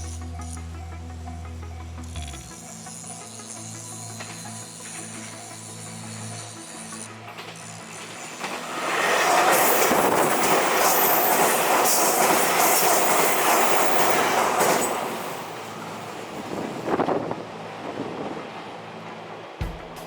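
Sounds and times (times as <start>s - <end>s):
train passing on rails: 0.4s - 20.0s.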